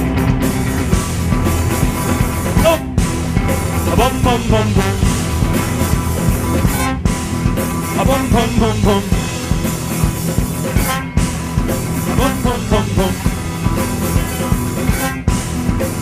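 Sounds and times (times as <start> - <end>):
band music: 0.0 - 16.0
drums steady beat: 0.0 - 16.0
pitch-bending melody: 0.1 - 15.4.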